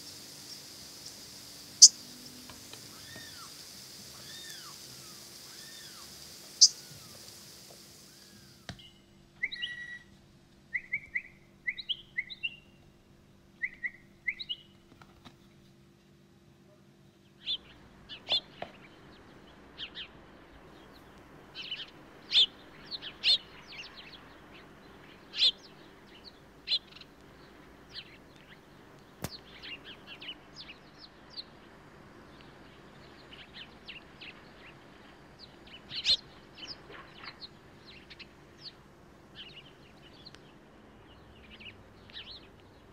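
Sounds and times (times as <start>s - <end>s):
small birds chirping: 0.0s - 12.8s, 13.6s - 14.8s, 17.2s - 42.9s
faint steady hum: 0.0s - 42.9s.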